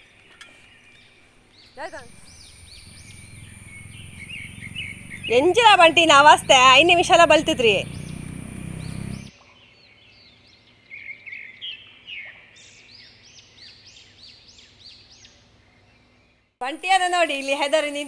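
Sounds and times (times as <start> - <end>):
outdoor background noise: 0.0 - 18.0
birds chirping: 0.2 - 16.4.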